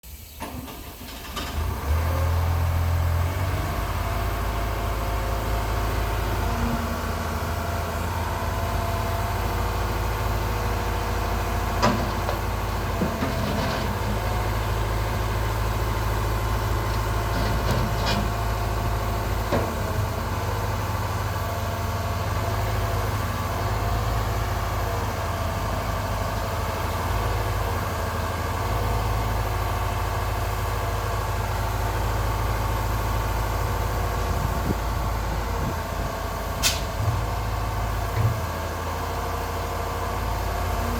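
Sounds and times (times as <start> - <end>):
diesel engine idling: 0.1 - 40.9.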